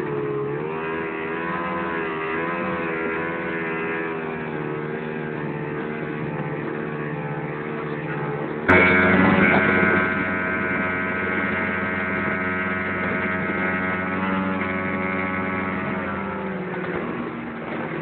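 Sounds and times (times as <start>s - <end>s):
outboard motor running hard: 0.0s - 18.0s.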